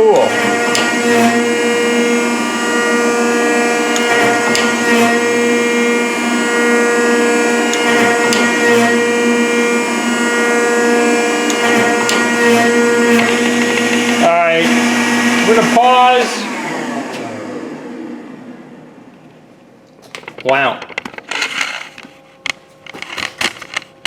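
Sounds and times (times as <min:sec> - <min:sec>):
hydraulic planer drone: 0:00.0 - 0:19.6.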